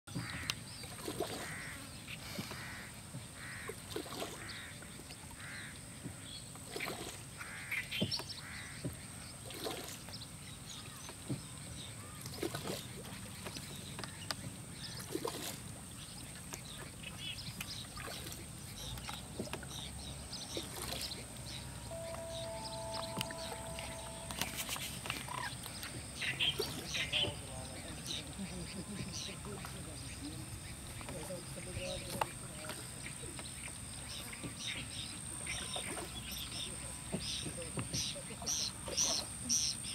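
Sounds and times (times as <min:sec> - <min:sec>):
paddle strokes in water: 0:00.1 - 0:39.6
birds calling: 0:00.1 - 0:39.9.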